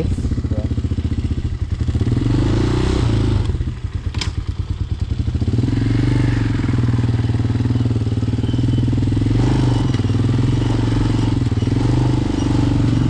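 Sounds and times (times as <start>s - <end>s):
motorcycle engine idling: 0.0s - 2.5s, 3.1s - 13.0s.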